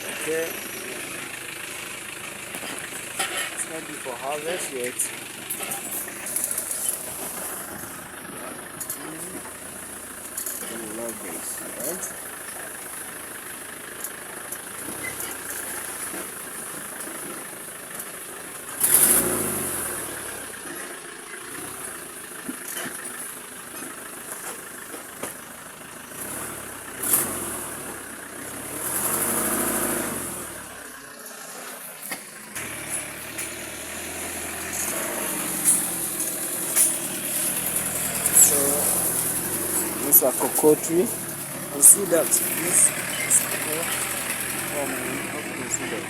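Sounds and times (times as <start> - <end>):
small engine running: 0.0 - 46.0.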